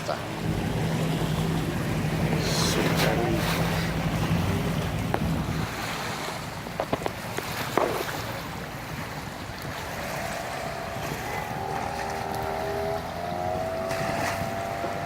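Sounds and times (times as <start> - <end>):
sea water sloshing: 0.0 - 15.0
wind on microphone: 0.0 - 15.0.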